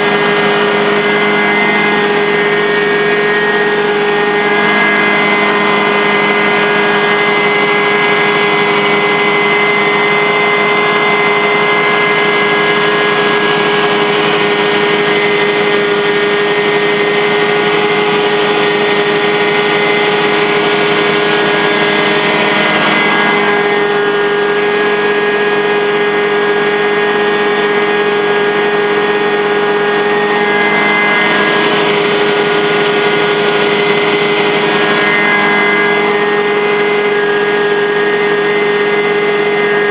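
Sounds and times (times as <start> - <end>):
carpet cleaning extractor droning: 0.0 - 39.9.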